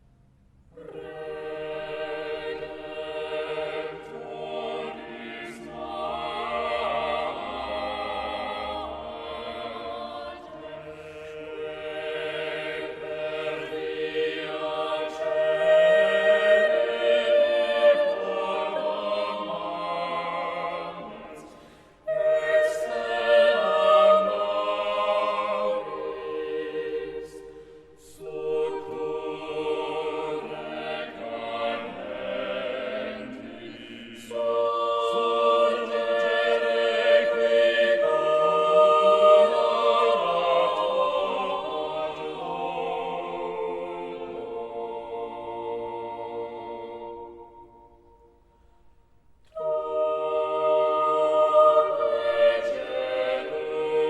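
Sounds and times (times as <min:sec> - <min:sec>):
choir singing: 0:00.7 - 0:54.0.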